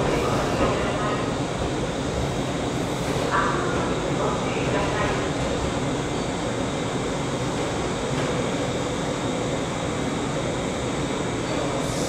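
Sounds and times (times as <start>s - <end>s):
train rumble and hiss: 0.0s - 12.0s.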